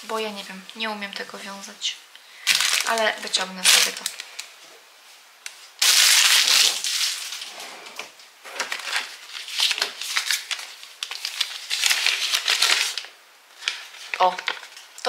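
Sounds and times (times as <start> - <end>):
crinkly packaging rustling: 2.4 - 15.0.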